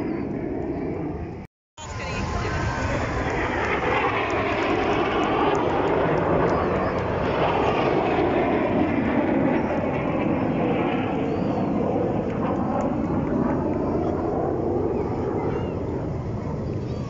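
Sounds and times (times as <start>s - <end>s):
jet roar: 0.0s - 17.0s.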